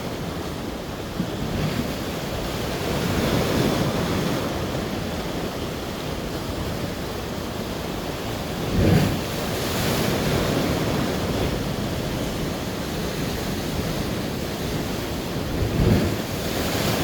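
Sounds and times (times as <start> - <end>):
sea waves washing onto shore: 0.0 - 17.0
wind rumbling on microphone: 0.0 - 17.0.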